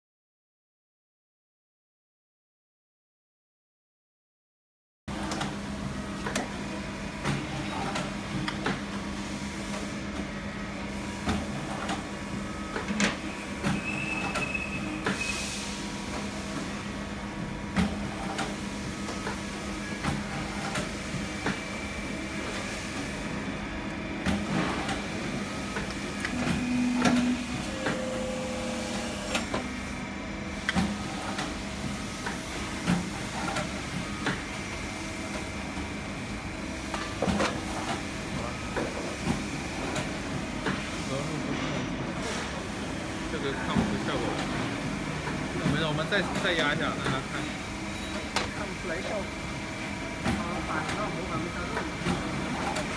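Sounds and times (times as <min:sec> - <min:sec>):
machine motor and pump humming: 0:05.1 - 0:52.9.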